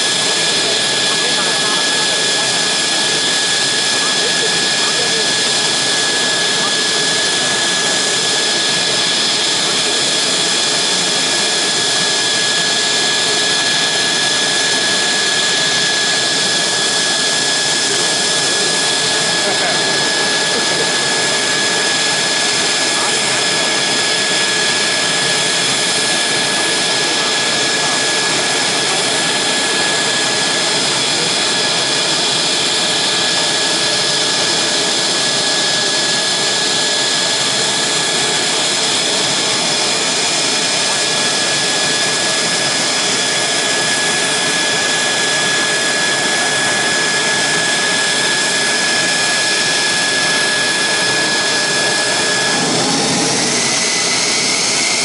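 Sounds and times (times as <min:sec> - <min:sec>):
high-pitched engine whine: 0:00.0 - 0:55.0
jet engine running: 0:00.0 - 0:55.0.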